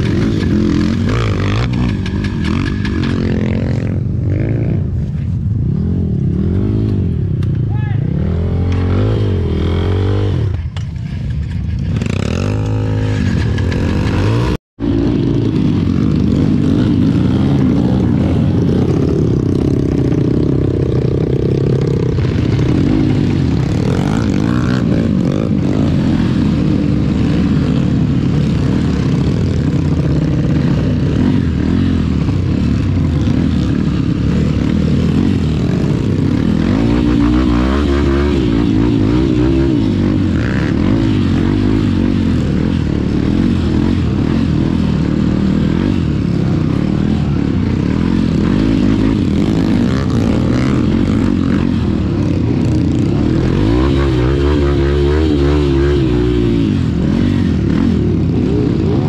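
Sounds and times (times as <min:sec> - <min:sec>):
dirt bike engine revving: 0:00.0 - 0:05.1, 0:08.0 - 0:10.8, 0:11.8 - 0:59.0.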